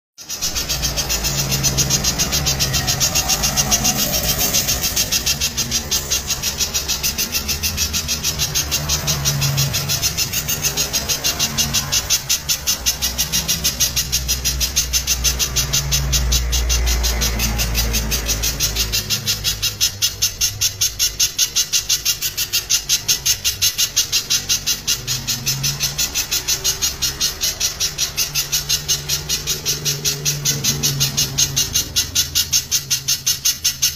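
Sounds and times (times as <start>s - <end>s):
bird singing sharp repeated notes: 0.2s - 33.9s.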